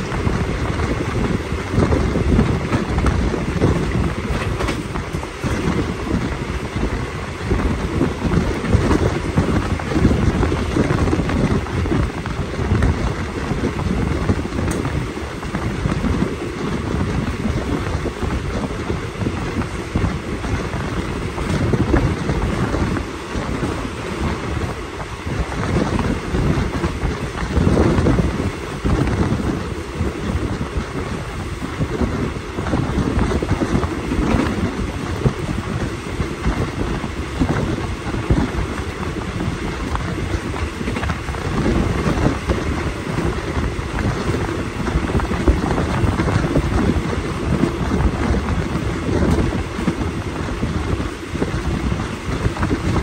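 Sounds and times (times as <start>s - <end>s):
train rumbling on rails: 0.0s - 53.0s
wind buffeting microphone: 0.0s - 53.0s.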